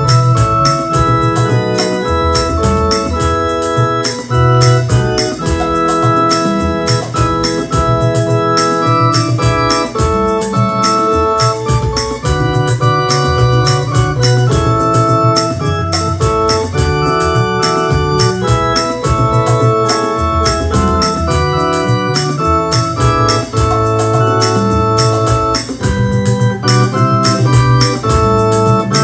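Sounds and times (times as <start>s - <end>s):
electronic keyboard playing a hymn: 0.0s - 29.0s
even ticking rhythm: 0.0s - 29.0s.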